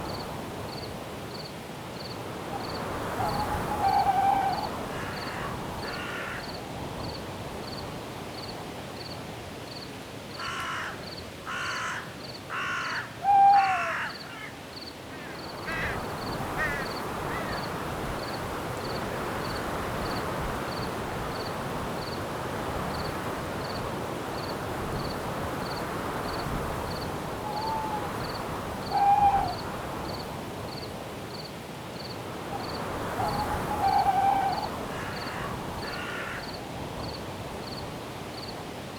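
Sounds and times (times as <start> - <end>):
crickets chirping: 0.0 - 38.6
wind through trees: 0.0 - 38.9.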